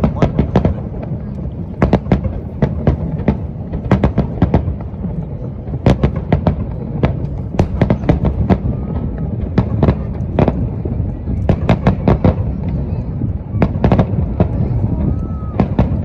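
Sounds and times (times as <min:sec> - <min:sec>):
fireworks cracking: 0:00.0 - 0:16.0
low rumble of fireworks: 0:00.0 - 0:16.0.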